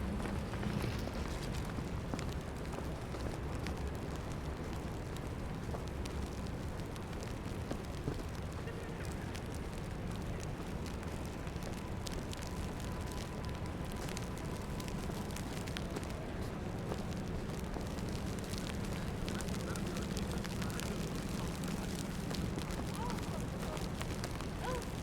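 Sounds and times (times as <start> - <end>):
low city rumble: 0.0 - 25.0
small crackling ticks: 0.0 - 25.0.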